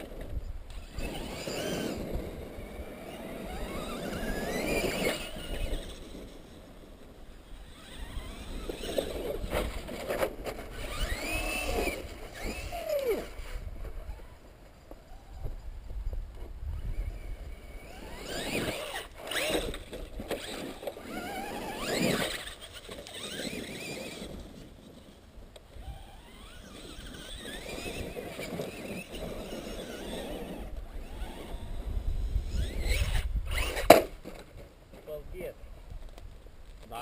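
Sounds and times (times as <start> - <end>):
electric motors whining: 0.0 - 34.4.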